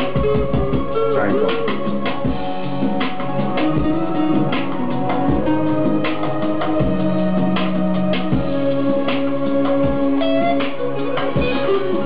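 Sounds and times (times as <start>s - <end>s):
instrumental hip-hop beat: 0.0s - 12.0s.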